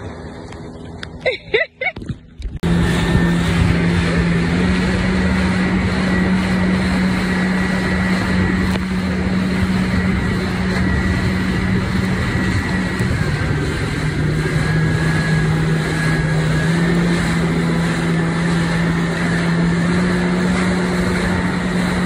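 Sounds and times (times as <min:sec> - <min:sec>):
jet ski engine drone: 0:00.0 - 0:22.0
water rushing: 0:00.0 - 0:22.0.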